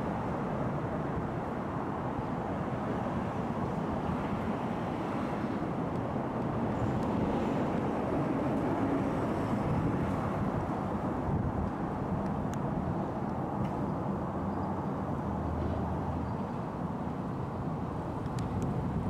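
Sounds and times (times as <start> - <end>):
vehicle and street noise: 0.0 - 19.0.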